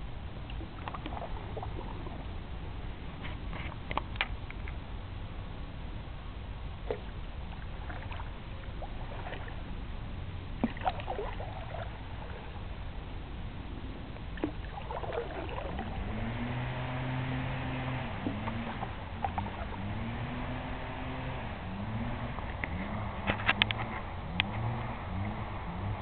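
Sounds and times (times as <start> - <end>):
steady low hum: 0.0 - 26.0
steady low rumble: 0.0 - 26.0
wooden paddle strokes in water: 0.4 - 4.8, 6.9 - 9.9, 10.6 - 12.6, 14.2 - 26.0.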